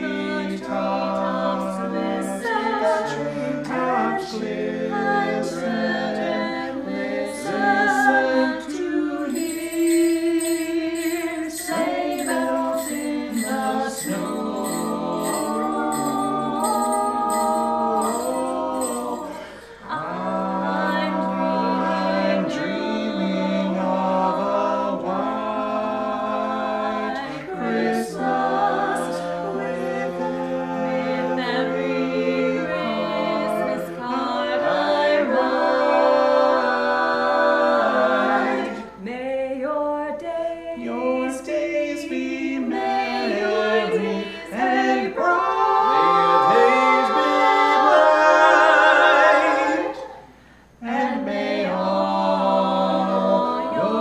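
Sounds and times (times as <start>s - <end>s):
a cappella carol singing in harmony: 0.0s - 54.0s.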